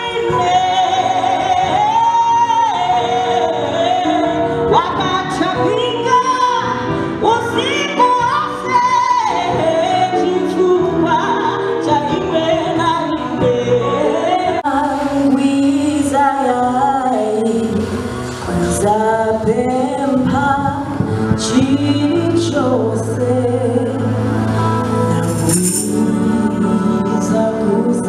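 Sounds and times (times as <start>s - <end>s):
instrumental backing: 0.0s - 28.0s
woman singing gospel song: 0.0s - 28.0s.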